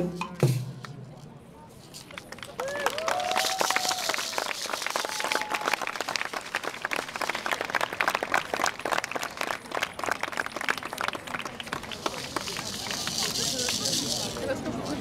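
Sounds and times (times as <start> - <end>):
crowd applauding: 2.1 - 14.5.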